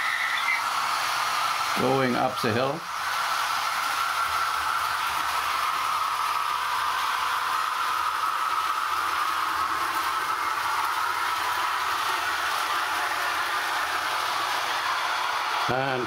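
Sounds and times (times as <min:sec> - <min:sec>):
model train running hum: 0:00.0 - 0:16.0.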